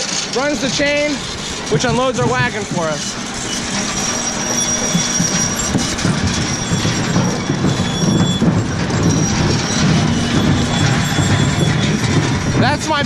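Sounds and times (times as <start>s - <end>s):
machinery squealing: 0.0s - 13.0s
potatoes clattering on conveyor: 0.0s - 13.0s.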